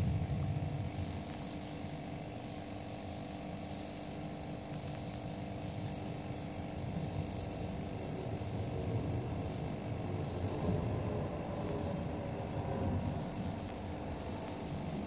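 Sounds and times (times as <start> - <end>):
faint steady hum: 0.0 - 15.0
insects trilling: 0.0 - 15.0.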